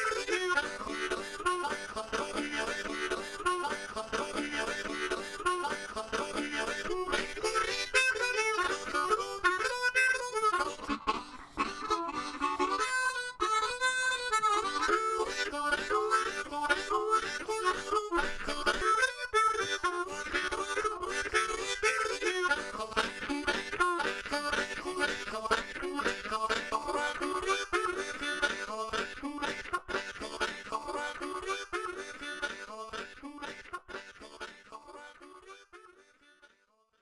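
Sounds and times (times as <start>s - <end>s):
blues harmonica with guitar: 0.0s - 36.5s.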